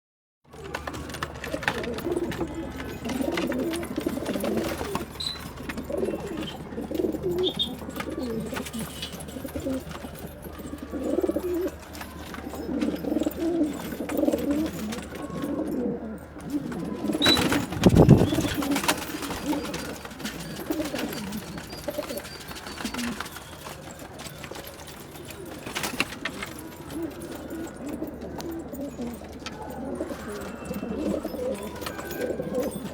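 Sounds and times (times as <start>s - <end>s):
pigeons cooing: 0.5s - 32.9s.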